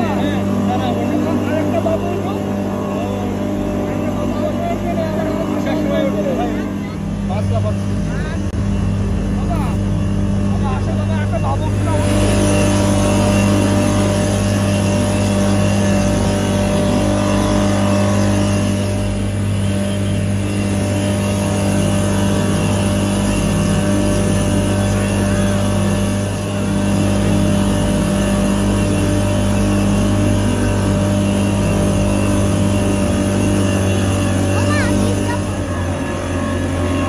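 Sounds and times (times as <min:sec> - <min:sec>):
churning wake rushing: 0:00.0 - 0:37.0
outboard motor droning: 0:00.0 - 0:37.0.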